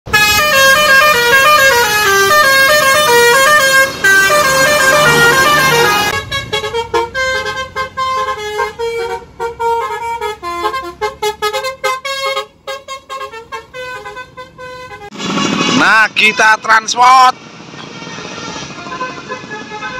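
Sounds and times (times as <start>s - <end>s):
multi-tone bus horns melody: 0.1s - 15.5s, 17.8s - 19.9s.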